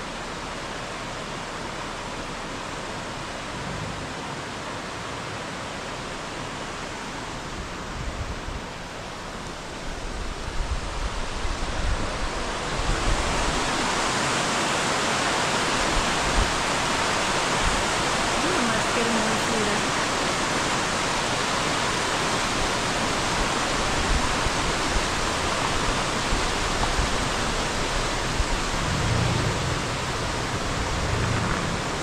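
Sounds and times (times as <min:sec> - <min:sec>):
river rushing over rocks: 0:00.0 - 0:32.0.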